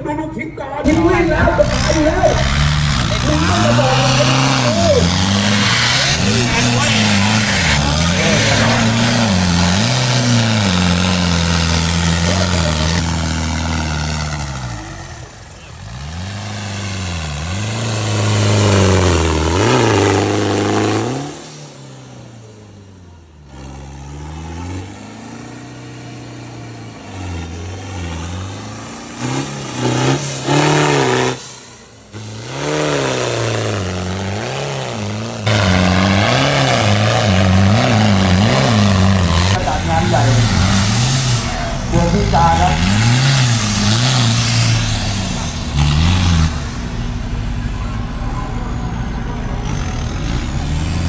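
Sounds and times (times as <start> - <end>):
truck engines revving in mud: 0.8 - 51.0.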